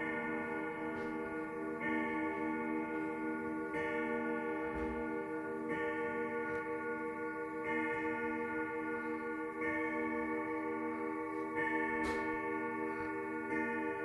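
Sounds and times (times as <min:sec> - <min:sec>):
grandfather clock striking: 0:00.0 - 0:14.0.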